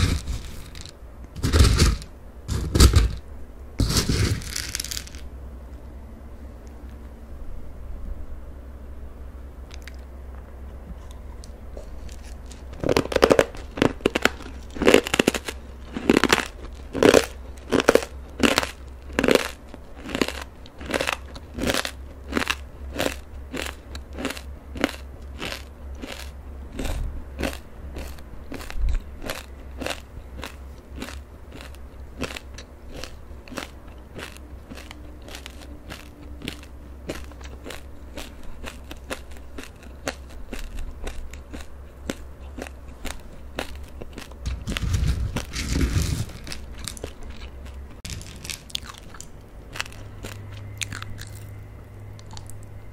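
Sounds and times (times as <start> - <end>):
crunchy snack being chewed: 0.0 - 3.2, 3.8 - 5.3, 11.0 - 52.7.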